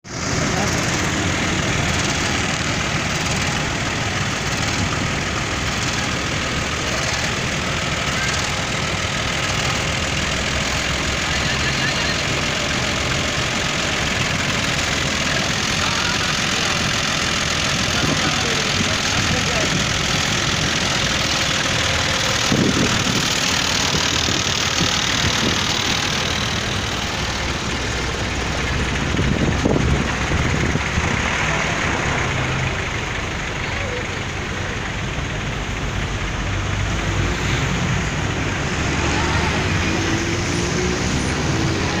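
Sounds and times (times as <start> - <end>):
tractor engine idling: 0.0 - 42.0.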